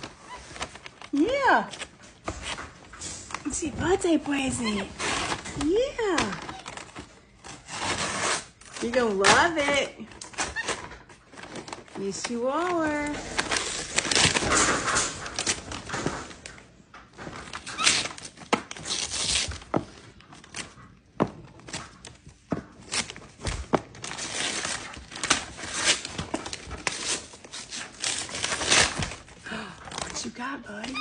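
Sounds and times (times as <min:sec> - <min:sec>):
paper tearing and crinkling: 0:00.0 - 0:03.5, 0:04.4 - 0:16.5, 0:17.2 - 0:20.8, 0:22.8 - 0:31.0.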